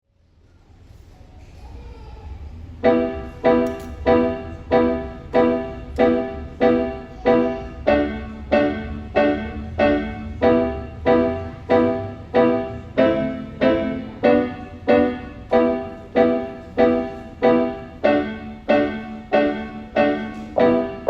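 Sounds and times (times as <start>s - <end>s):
piano chords ringing: 2.8s - 21.0s.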